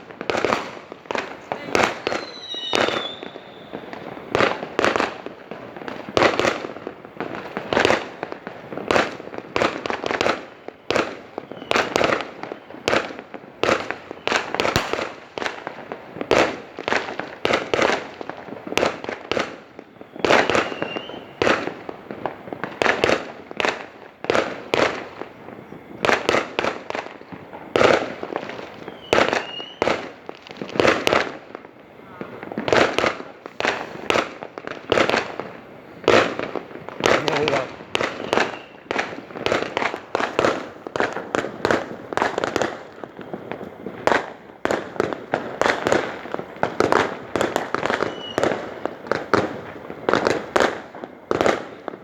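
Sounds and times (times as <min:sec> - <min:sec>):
fireworks bangs: 0:00.0 - 0:52.0
fireworks whistling: 0:00.0 - 0:52.0.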